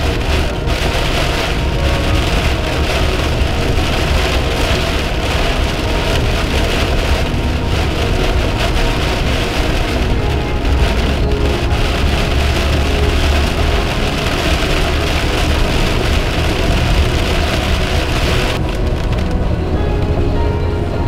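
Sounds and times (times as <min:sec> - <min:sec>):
heavy rain on car: 0:00.0 - 0:20.9
tyres rumbling on wet road: 0:00.0 - 0:21.0.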